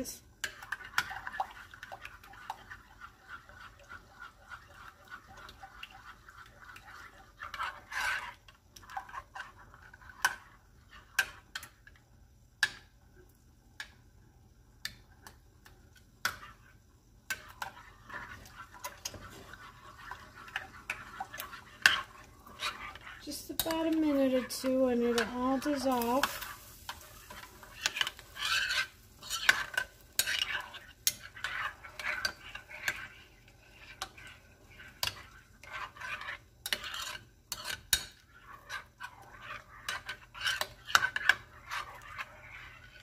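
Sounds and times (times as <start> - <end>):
whisk scraping glass bowl: 0.4 - 11.6, 17.3 - 43.0.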